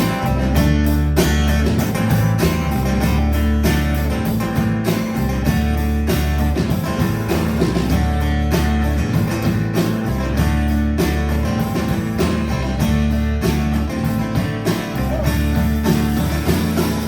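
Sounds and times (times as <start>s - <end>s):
bass guitar: 0.0s - 17.0s
drum kit beat: 0.0s - 17.0s
strummed guitar: 0.0s - 17.0s.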